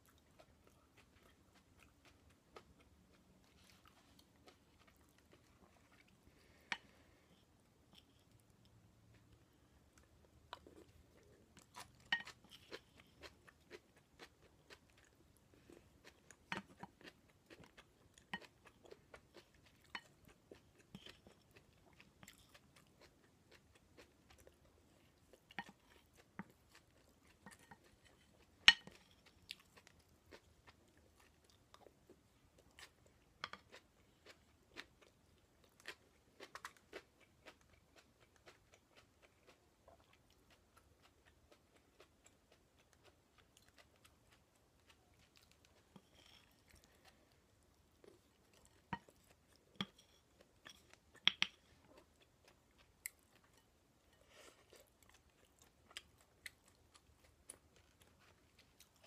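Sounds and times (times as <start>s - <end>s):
chewing crisp vegetables: 0.0s - 59.0s.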